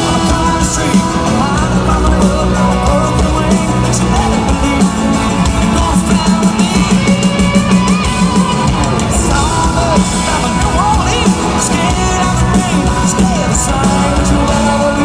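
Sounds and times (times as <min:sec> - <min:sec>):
drum kit beat: 0:00.0 - 0:15.0
guitar playing: 0:00.0 - 0:15.0.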